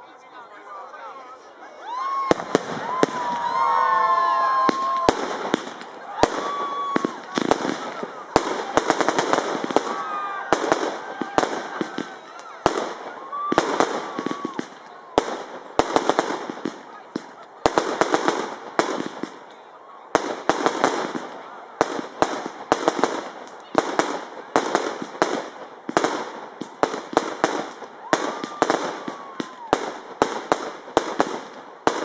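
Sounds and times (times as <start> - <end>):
fireworks fizzing crackle: 1.9 - 32.0
fireworks bangs: 2.0 - 32.0.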